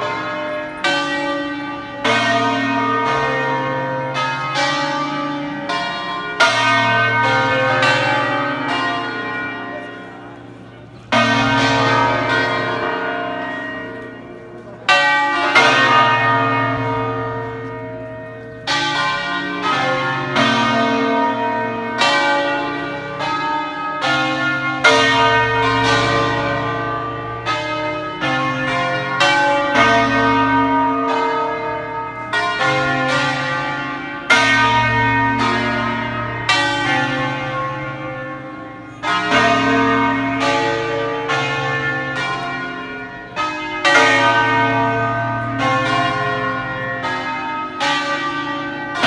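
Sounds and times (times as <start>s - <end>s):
church bells ringing: 0.0s - 49.0s.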